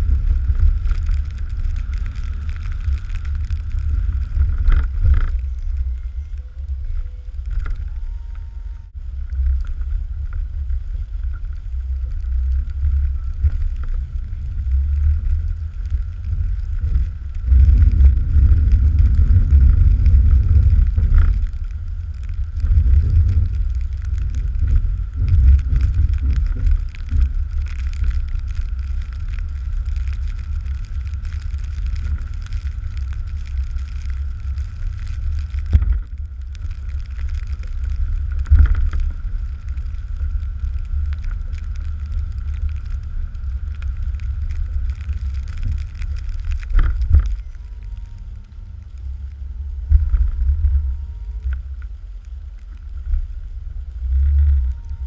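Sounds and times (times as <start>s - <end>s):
high engine whine: 0.0s - 55.0s.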